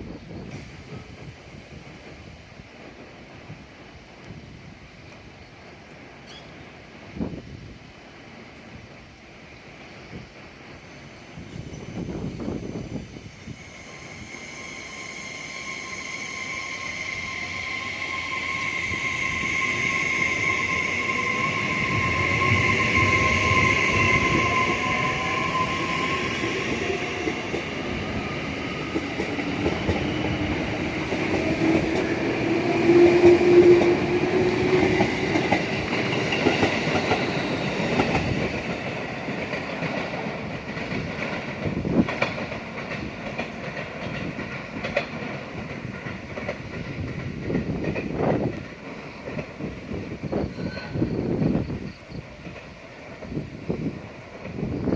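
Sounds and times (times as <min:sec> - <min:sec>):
train passing on rails: 0:00.0 - 0:54.9.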